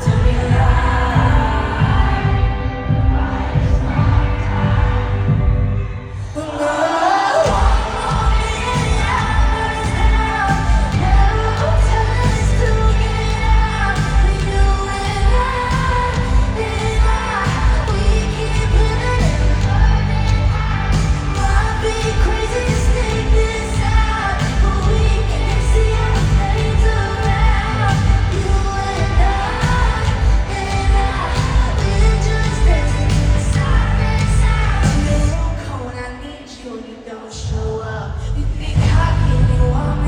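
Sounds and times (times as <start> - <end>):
live pop band with heavy bass: 0.0 - 36.7, 37.4 - 40.0
woman singing: 0.0 - 40.0.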